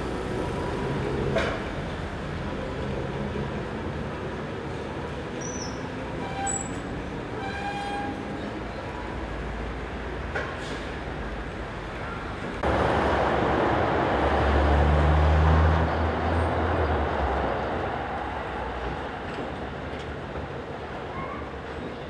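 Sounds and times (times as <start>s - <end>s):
streetcar wheels rumbling on rails: 0.0s - 22.0s.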